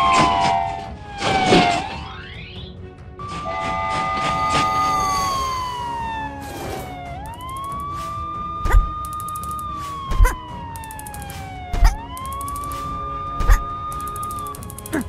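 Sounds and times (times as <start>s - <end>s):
ambulance siren wailing: 0.0s - 2.4s, 3.2s - 15.0s
background music with deep thump: 0.0s - 4.9s, 5.7s - 9.1s, 9.9s - 15.0s.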